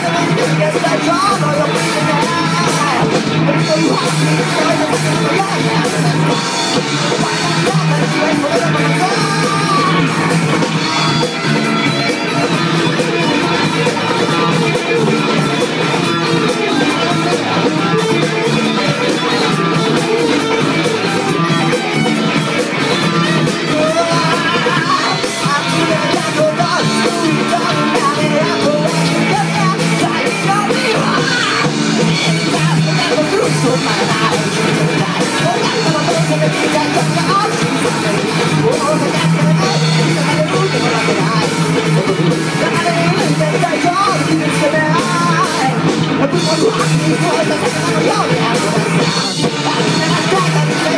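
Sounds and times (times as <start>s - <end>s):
bass guitar: 0.0s - 50.9s
drum kit: 0.0s - 50.9s
electric guitars: 0.0s - 50.9s.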